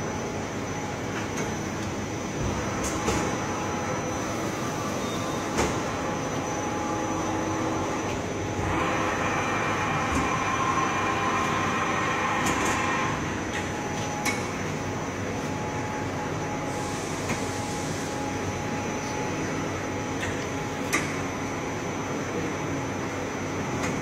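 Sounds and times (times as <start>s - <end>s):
high-pitched machine whine: 0.0s - 23.8s
lathe mechanical hum: 0.0s - 24.0s.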